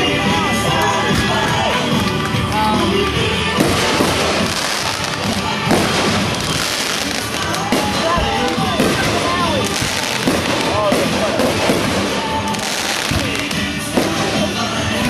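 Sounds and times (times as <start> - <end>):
music: 0.0 - 15.0
voices: 0.0 - 15.0
fireworks banging: 1.0 - 15.0.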